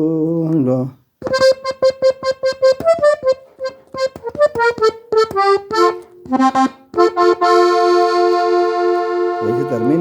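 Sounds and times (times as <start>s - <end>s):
button accordion playing: 1.2s - 10.0s.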